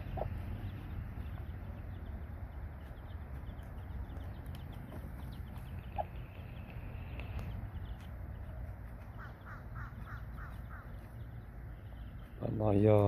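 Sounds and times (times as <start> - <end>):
low background rumble: 0.0 - 12.8
chicks peeping: 0.0 - 13.0.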